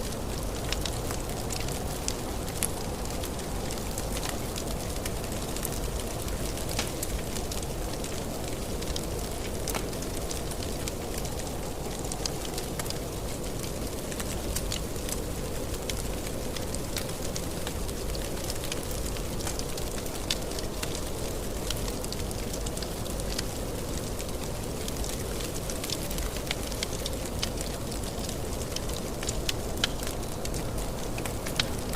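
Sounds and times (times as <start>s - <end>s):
wood fire crackling and popping: 0.0s - 31.9s.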